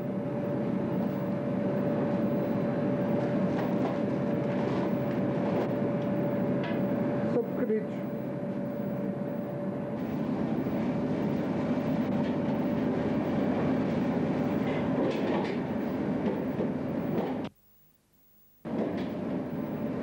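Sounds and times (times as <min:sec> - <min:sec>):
ship machinery drone: 0:00.0 - 0:17.5, 0:18.6 - 0:20.0.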